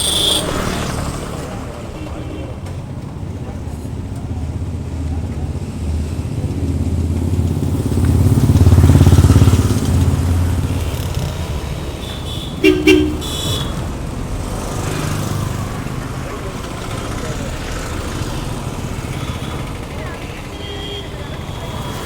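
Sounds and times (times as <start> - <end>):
vehicle engine passing: 0.0 - 2.0, 4.2 - 20.5.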